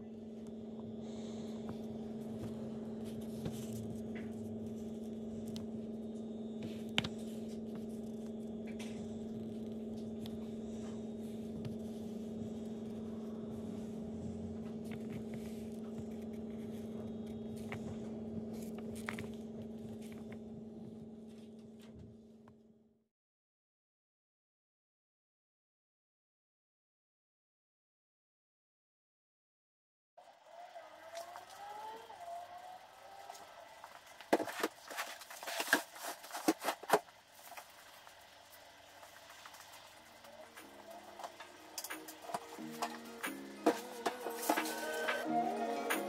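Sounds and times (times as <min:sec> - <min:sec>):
low electrical hum: 0:00.0 - 0:22.9, 0:30.2 - 0:46.0.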